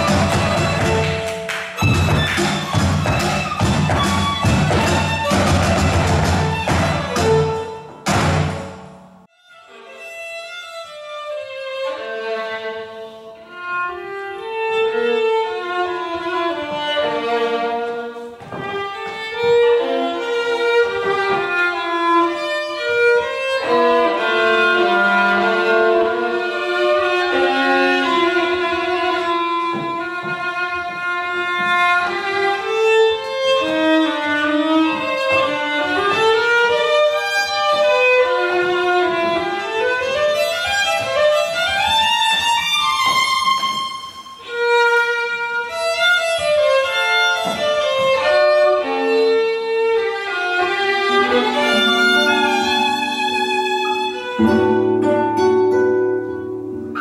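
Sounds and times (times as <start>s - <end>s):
solo violin melody: 0.0s - 8.2s, 9.3s - 57.0s.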